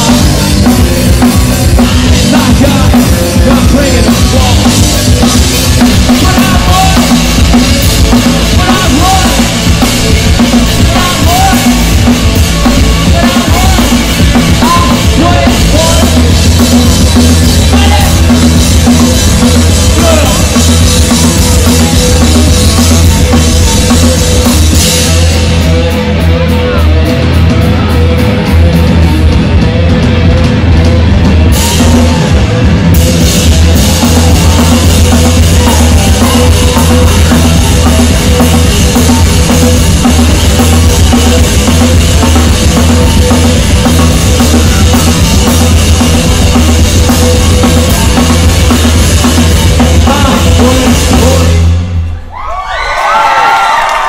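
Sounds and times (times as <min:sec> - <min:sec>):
live rock band playing: 0:00.0 - 0:52.3.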